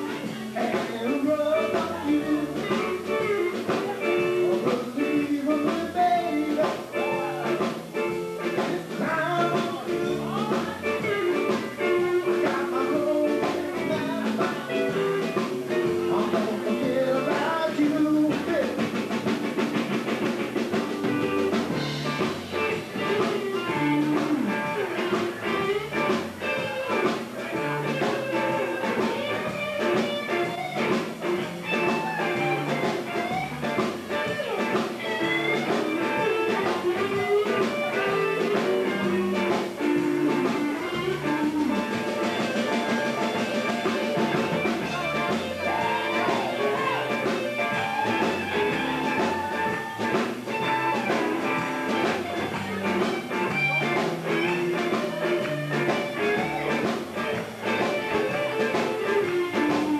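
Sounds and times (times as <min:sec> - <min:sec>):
bass guitar: 0:00.0 - 0:59.9
drum kit: 0:00.0 - 0:59.9
electric guitar lead: 0:00.0 - 0:59.9.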